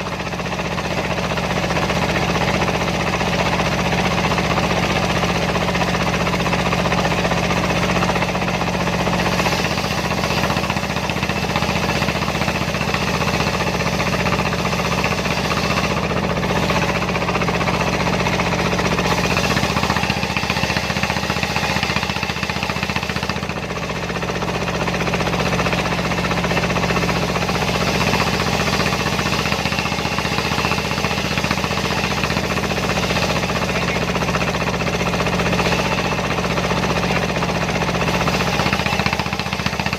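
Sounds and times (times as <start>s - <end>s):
circular saw: 0.0s - 39.9s
diesel engine knocking: 0.0s - 39.9s.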